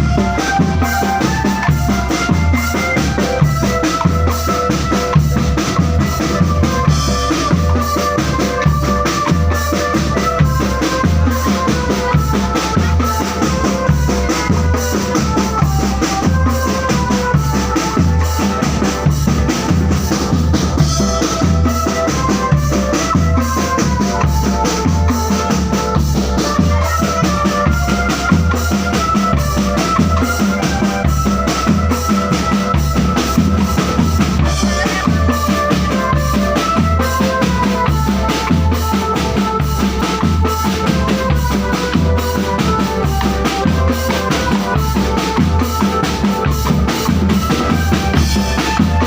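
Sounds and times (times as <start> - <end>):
band melody: 0.0 - 49.0
bass drums beating: 0.0 - 49.0
fast snare drumming: 0.0 - 49.0.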